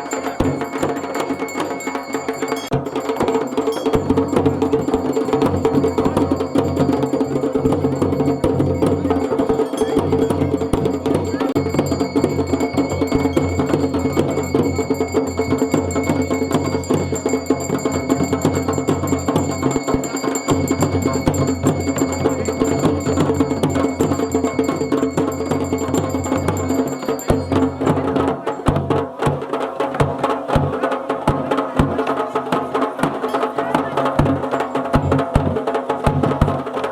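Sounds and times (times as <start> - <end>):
drums in fast rhythm: 0.0 - 36.9.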